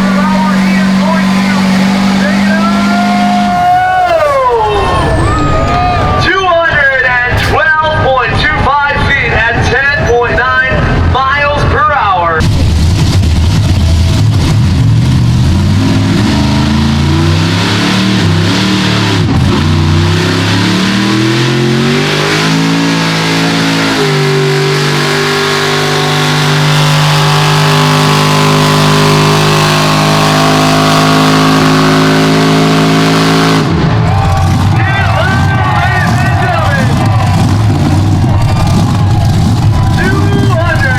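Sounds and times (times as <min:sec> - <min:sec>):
truck engine at full throttle: 0:00.0 - 0:40.9.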